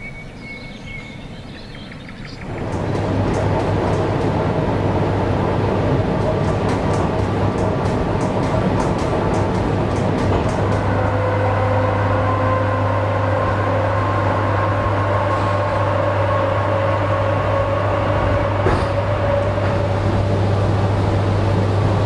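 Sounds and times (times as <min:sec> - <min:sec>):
electric train humming: 0:00.0 - 0:22.0.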